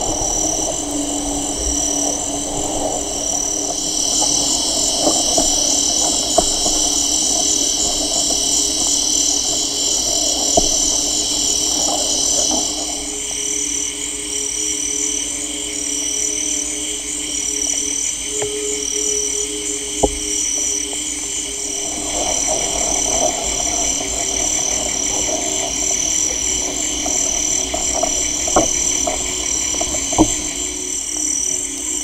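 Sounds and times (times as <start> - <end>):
high-pitched insect drones: 0.0 - 32.0.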